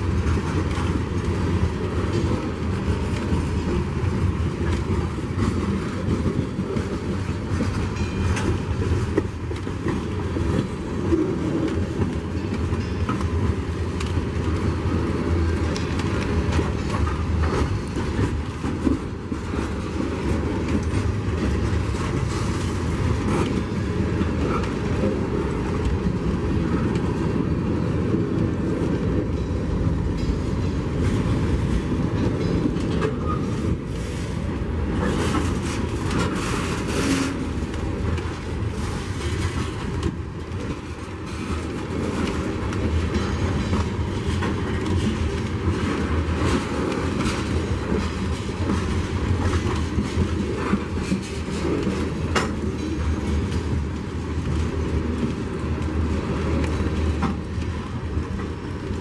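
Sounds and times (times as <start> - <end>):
train cars rumbling on rails: 0.0 - 59.0.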